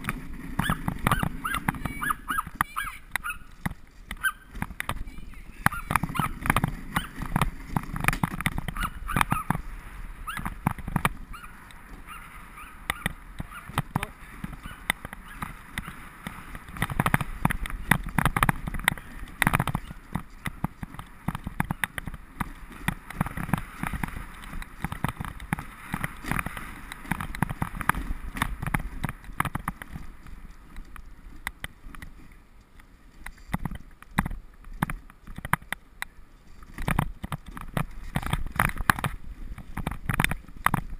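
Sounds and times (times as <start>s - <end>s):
sled knocking and rattling: 0.0s - 32.2s, 36.6s - 40.9s
sled runners scraping on snow: 0.0s - 35.4s, 36.3s - 40.9s.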